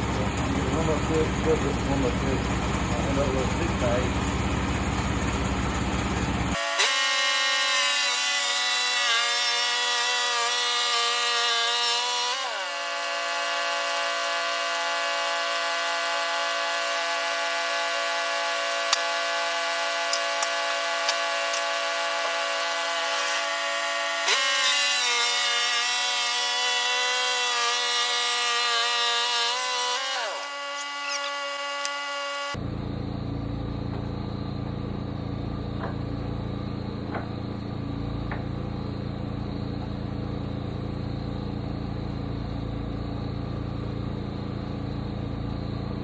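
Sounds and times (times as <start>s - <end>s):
sawmill saw whine: 0.0s - 46.0s.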